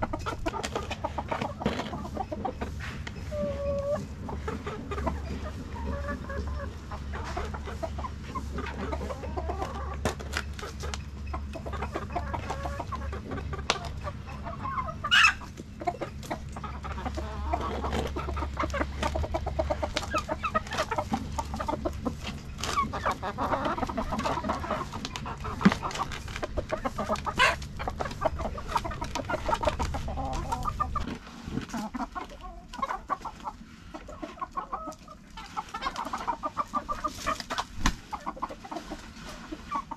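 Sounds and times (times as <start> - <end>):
chickens clucking: 0.0 - 39.9
low steady hum: 0.0 - 39.9.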